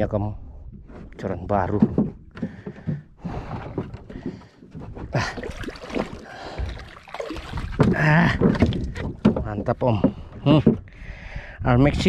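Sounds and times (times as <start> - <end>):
knocks and clatter on boat deck: 0.7 - 11.1.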